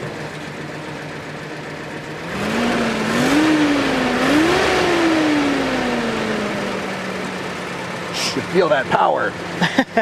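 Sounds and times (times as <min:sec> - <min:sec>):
truck engine idling and revving: 0:00.0 - 0:10.0.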